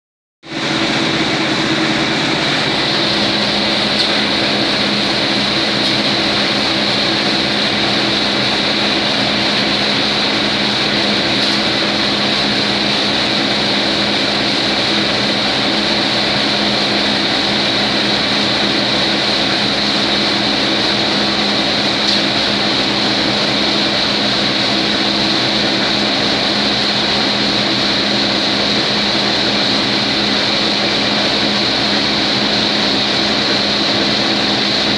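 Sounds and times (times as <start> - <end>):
machine humming and whining: 0.5 - 34.9.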